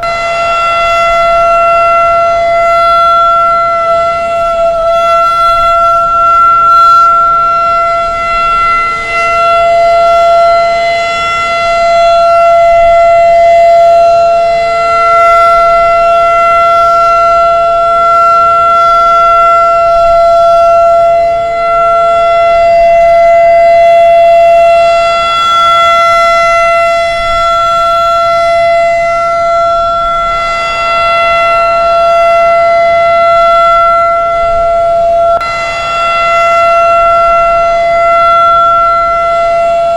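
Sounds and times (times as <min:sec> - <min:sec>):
warning siren steady wail: 0:00.0 - 0:39.9.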